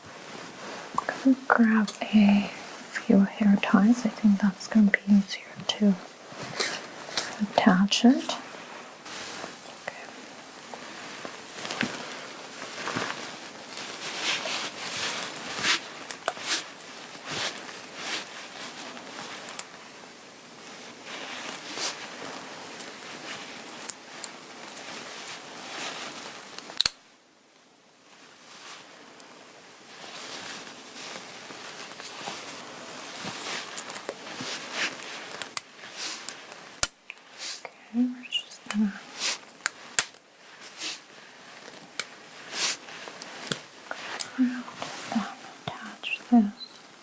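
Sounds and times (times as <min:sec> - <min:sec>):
fabric rustling: 0:00.0 - 0:26.8, 0:28.0 - 0:47.0.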